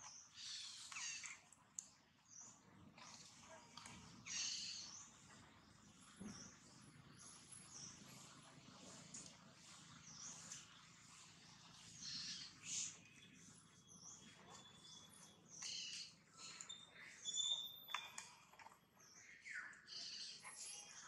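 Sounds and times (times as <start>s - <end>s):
faint bird chirps and calls: 0.0s - 21.0s.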